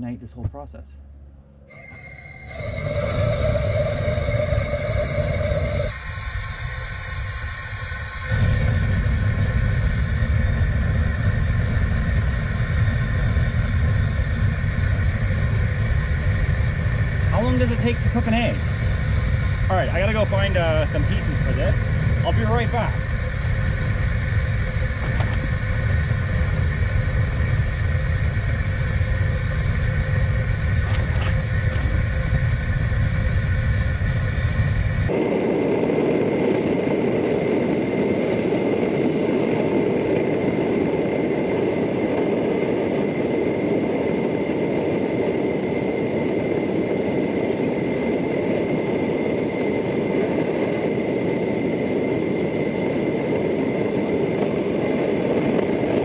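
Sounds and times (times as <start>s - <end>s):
gas torch flame rushing: 1.7s - 56.0s.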